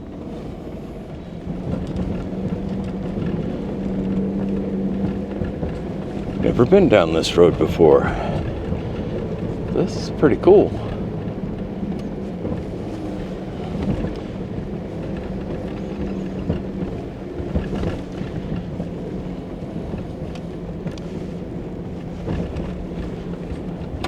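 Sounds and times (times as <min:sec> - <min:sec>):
vehicle engine running low speed: 0:00.0 - 0:24.0.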